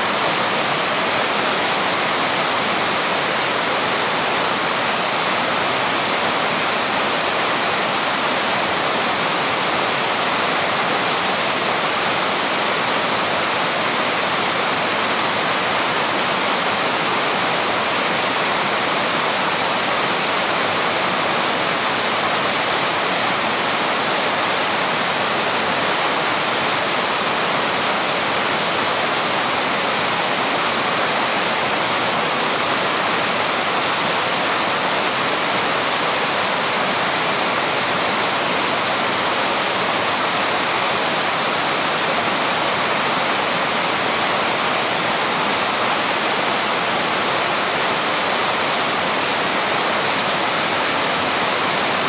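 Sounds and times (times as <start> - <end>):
waterfall pouring over rocks: 0.0 - 52.0.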